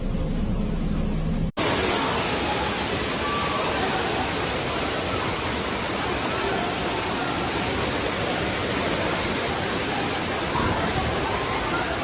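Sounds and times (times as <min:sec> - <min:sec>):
water rushing: 0:01.6 - 0:12.0.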